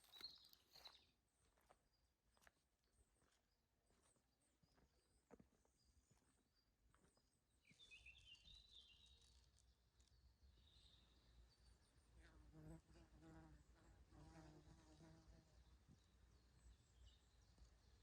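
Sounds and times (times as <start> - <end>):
faint bird chirping: 2.4 - 18.0.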